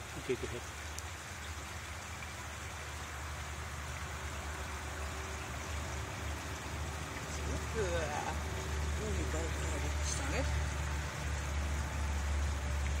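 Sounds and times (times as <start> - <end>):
stream and waterfalls rushing: 0.0 - 13.0.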